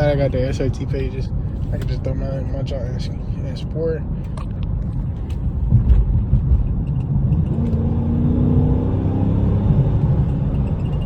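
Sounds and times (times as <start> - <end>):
car engine and exhaust rumbling: 0.0 - 11.0.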